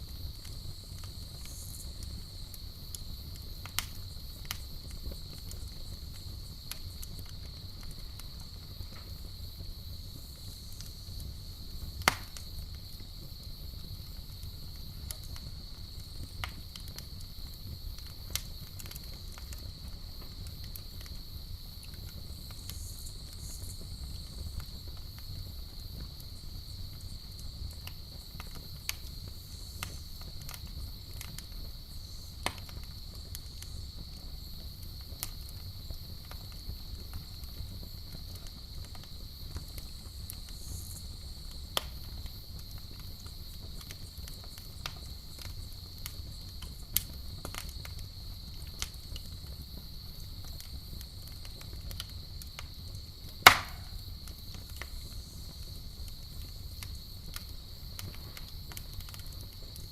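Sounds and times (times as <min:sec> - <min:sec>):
campfire crackling and popping: 0:00.0 - 0:59.9
night insects droning: 0:00.0 - 0:59.9.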